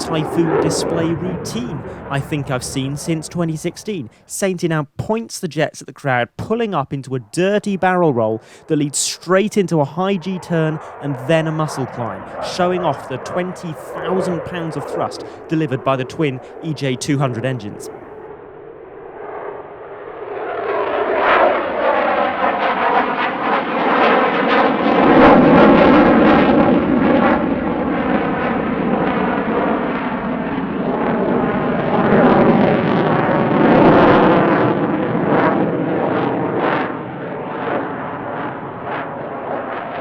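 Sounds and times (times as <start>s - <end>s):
jet engines roaring: 0.0s - 4.7s, 6.5s - 40.0s.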